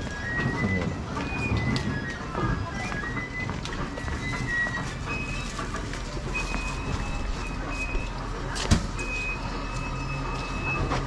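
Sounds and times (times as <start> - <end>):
railcar rumble: 0.0 - 11.0.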